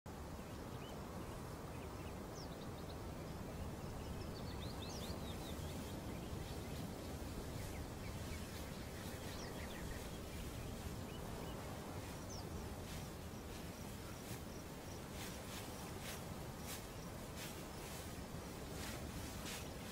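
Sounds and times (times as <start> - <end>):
open-air field ambience: 0.1 - 19.9
bird chirps: 0.4 - 18.2.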